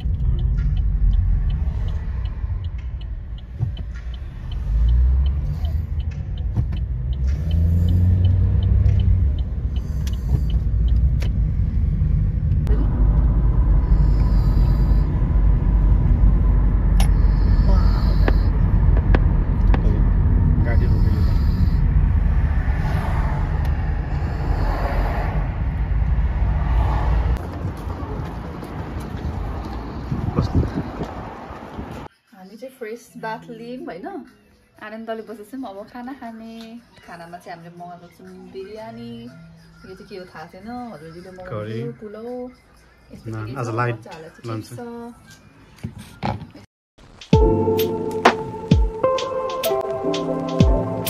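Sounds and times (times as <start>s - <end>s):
car road and engine rumble: 0.0s - 32.1s, 38.1s - 51.0s.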